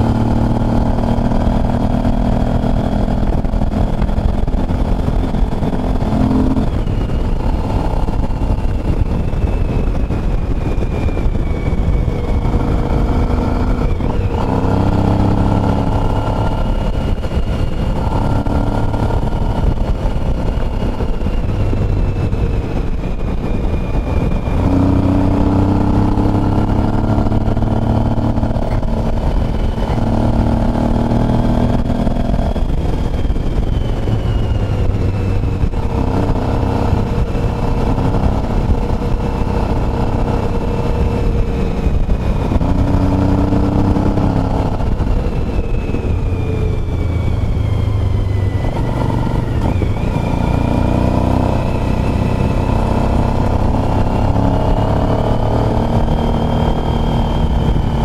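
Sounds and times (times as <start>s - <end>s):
motorcycle engine running: 0.0s - 58.0s
wind rush on microphone: 0.0s - 58.0s.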